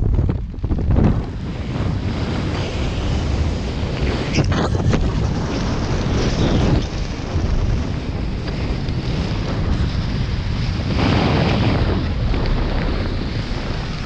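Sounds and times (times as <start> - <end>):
wind roar on microphone: 0.0 - 14.0.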